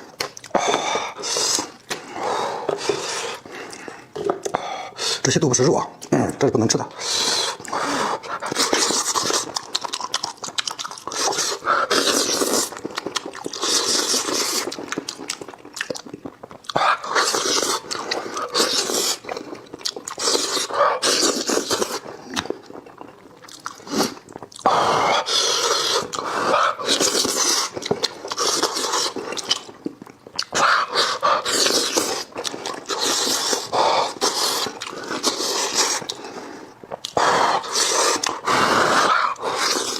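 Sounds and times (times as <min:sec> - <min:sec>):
person chewing and slurping: 0:00.0 - 0:05.3, 0:06.9 - 0:39.9.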